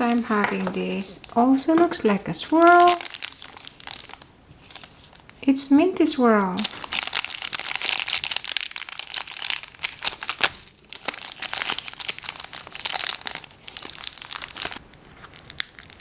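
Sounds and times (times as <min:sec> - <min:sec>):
wrapper crinkling and tearing: 0:00.0 - 0:05.4, 0:06.5 - 0:16.0
wrapper snapping: 0:00.0 - 0:05.4, 0:06.6 - 0:16.0.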